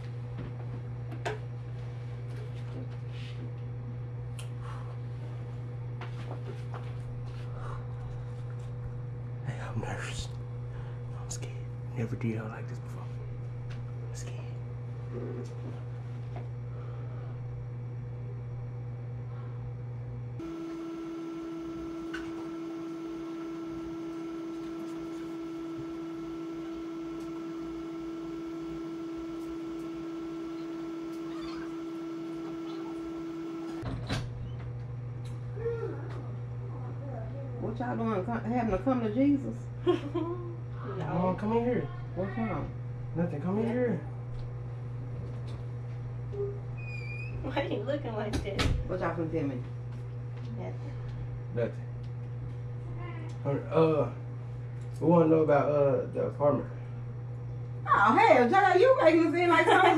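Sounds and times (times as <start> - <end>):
low room hum: 0.0 - 59.9.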